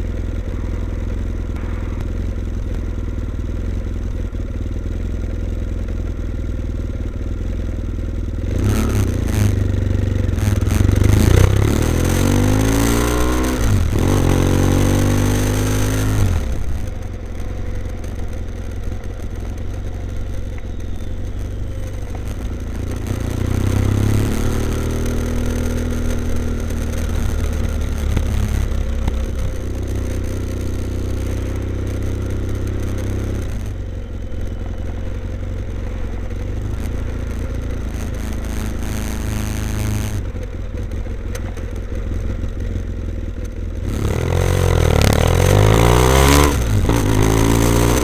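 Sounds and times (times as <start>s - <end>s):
motorcycle engine at low revs: 0.0s - 48.0s.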